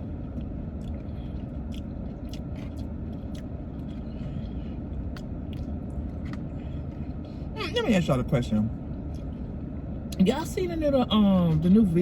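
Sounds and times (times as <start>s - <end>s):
car cabin engine rumble: 0.0s - 12.0s.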